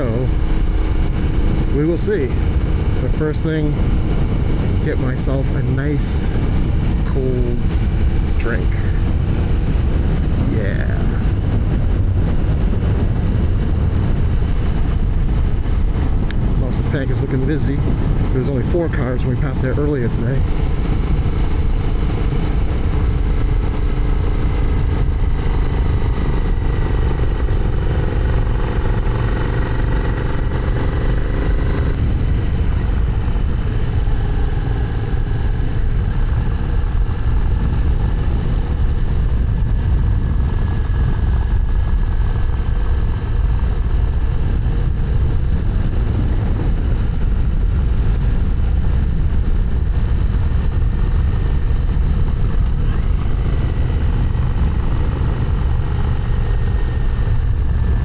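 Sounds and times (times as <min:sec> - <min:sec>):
motorcycle engine running: 0:00.0 - 0:58.0
wind rush over microphone: 0:00.0 - 0:58.0.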